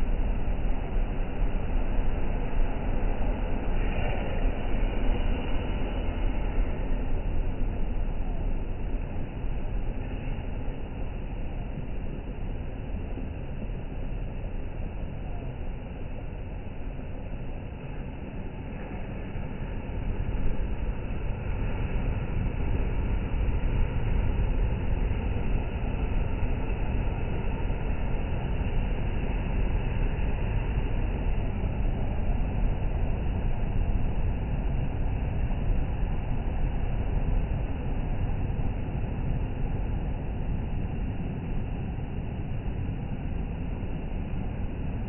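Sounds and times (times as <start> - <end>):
sea surf: 0.0 - 45.0
wind: 0.0 - 45.0.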